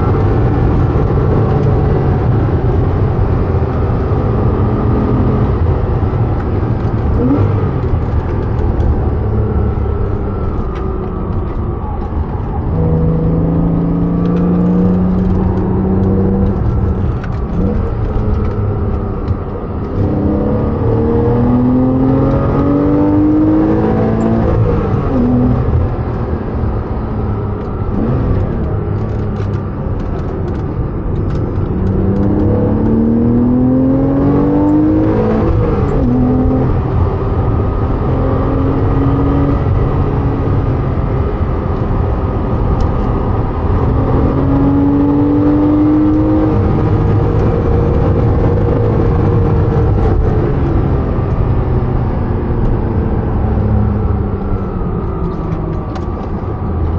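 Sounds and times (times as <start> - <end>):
car engine accelerating hard: 0.0 - 56.9.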